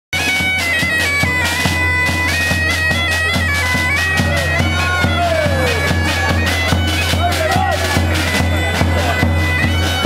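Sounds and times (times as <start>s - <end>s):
drum beating: 0.1s - 10.0s
bagpipe melody with drone: 0.2s - 10.0s.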